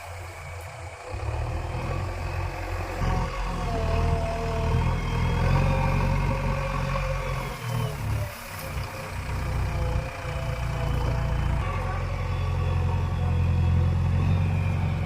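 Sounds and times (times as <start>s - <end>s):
diesel engine working under load: 0.0s - 15.0s.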